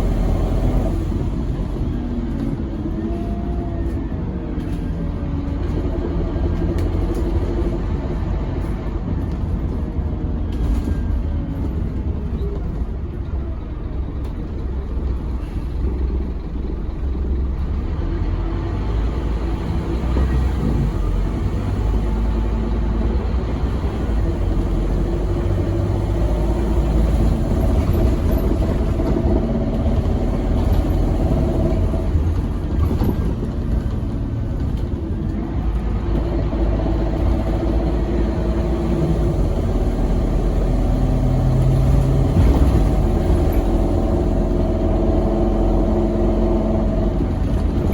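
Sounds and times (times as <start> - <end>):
bus engine rumbling: 0.0 - 47.9.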